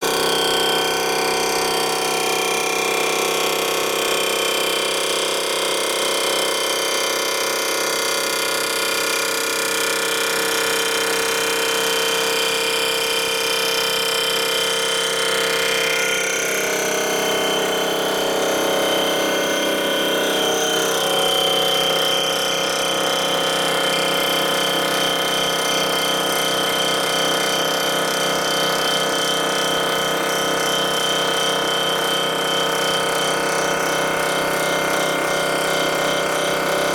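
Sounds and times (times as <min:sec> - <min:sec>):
surfacing machine whine: 0:00.0 - 0:36.9.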